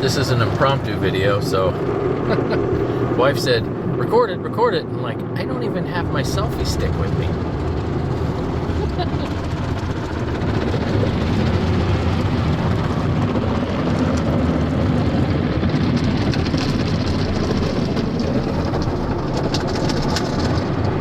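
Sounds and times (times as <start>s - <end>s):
car wash rumble: 0.0s - 21.0s.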